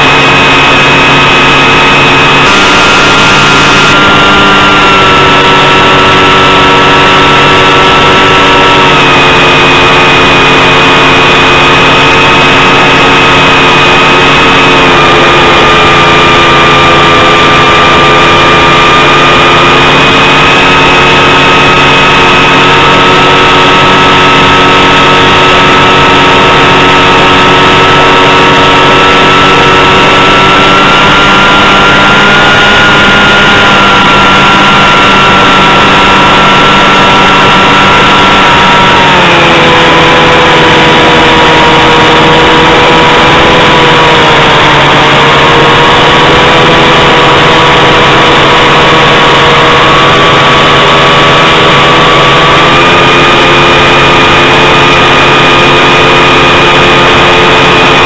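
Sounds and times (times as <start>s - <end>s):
model aircraft engine running: 0.0s - 58.0s.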